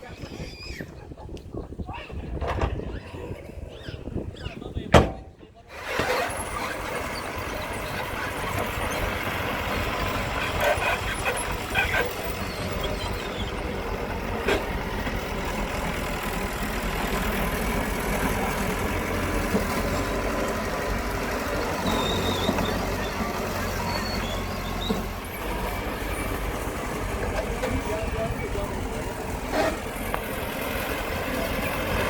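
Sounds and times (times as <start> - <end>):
heavy machinery diesel engines: 1.3 - 32.0.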